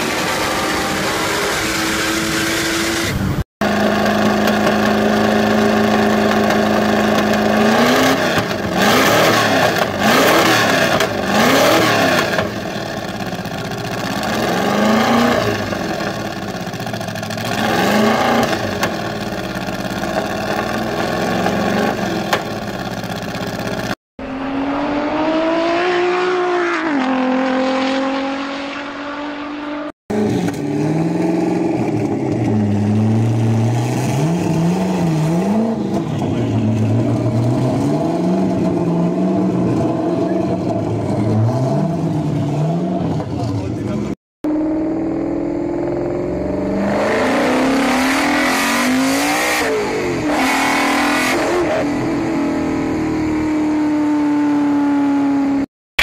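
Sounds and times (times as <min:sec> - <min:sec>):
supercharged car engine revving: 0:00.0 - 0:23.0, 0:23.6 - 0:55.7
car engine idling and revving: 0:00.0 - 0:55.7.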